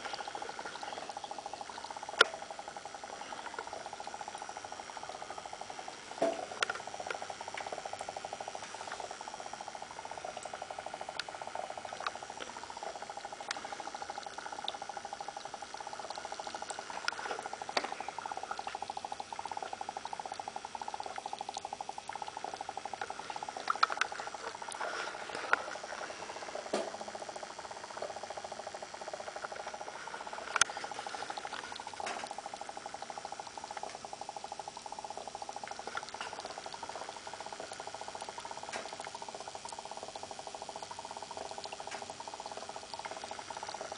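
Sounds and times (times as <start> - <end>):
fast-pulsing hum: 0.0 - 43.9
sharp ticks: 0.0 - 43.9
water bubbling and fizzing: 0.0 - 43.9.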